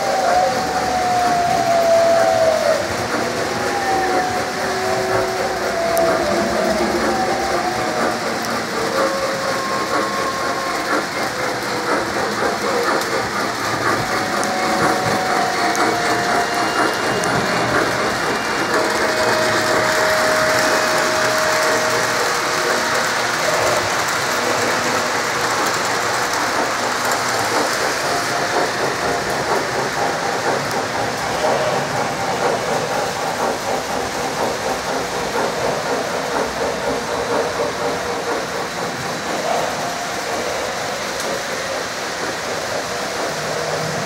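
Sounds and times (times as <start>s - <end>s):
model trains clattering on track: 0.0s - 44.0s.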